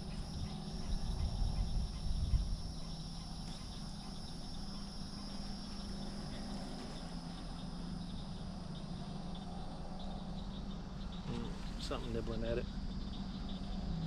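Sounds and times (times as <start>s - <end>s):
insect chorus chirring: 0.0s - 14.0s.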